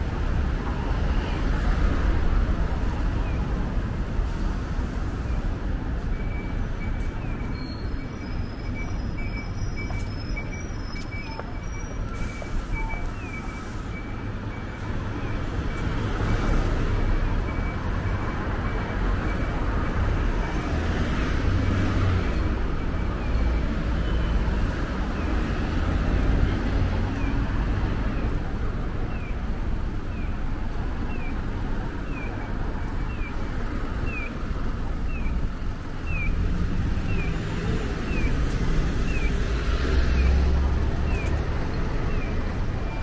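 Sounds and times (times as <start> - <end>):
rumble of passing vehicles: 0.0 - 43.0.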